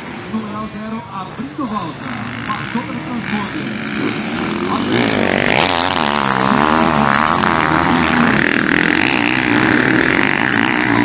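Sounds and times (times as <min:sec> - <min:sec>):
motorbike engine revving: 0:01.4 - 0:11.0.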